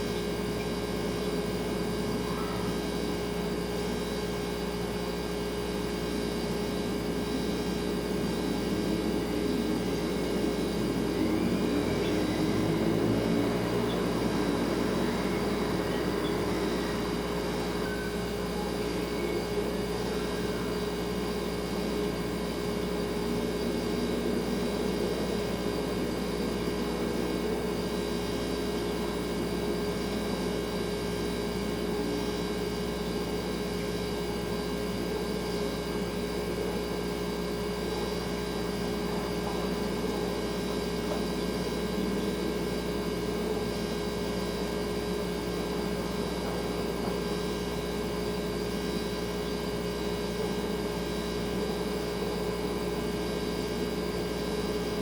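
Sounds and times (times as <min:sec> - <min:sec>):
refrigerator hum: 0:00.0 - 0:55.0.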